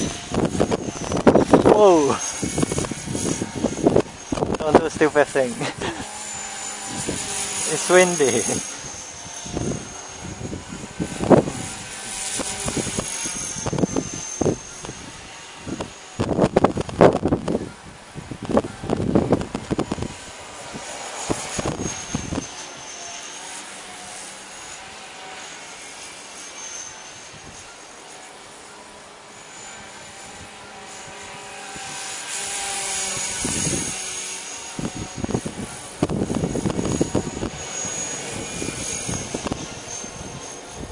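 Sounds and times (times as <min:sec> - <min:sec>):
wind buffeting microphone: 0:00.0 - 0:22.8, 0:29.7 - 0:40.9
rc helicopter rotor whine: 0:00.0 - 0:40.9.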